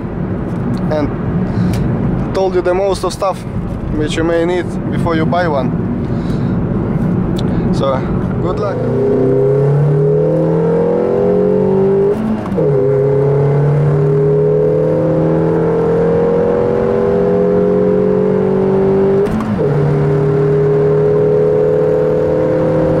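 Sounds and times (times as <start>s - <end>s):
car engine accelerating: 3.1s - 23.0s.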